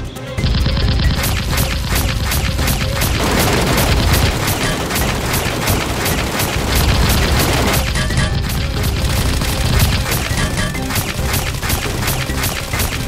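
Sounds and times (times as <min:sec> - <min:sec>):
automatic gunfire: 0:00.4 - 0:13.0.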